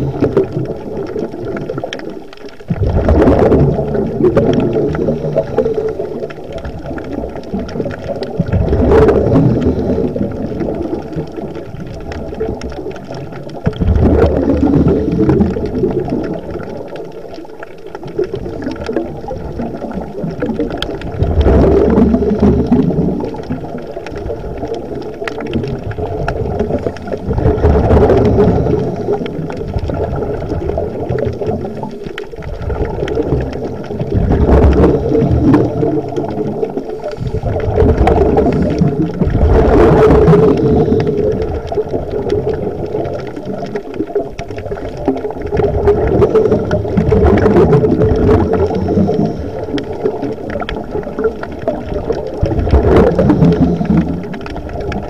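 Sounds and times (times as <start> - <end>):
underwater regulator breathing bubbles: 0.0 - 55.0.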